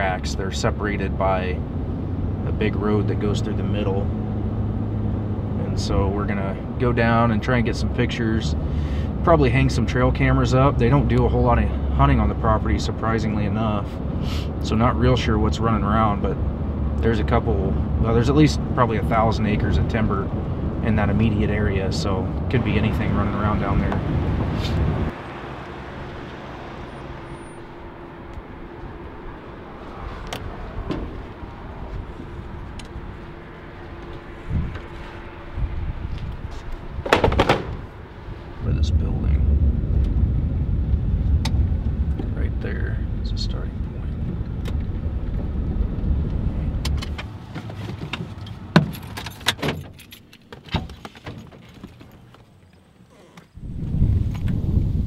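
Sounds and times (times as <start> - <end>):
truck road and engine noise: 0.0 - 55.0
vehicle noise with hum: 0.0 - 55.0.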